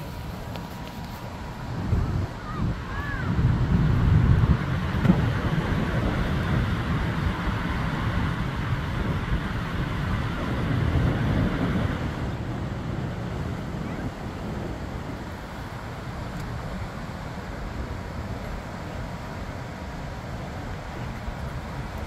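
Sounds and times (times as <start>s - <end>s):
churning water rushing: 0.0s - 22.0s
wind gusting on microphone: 0.0s - 22.0s.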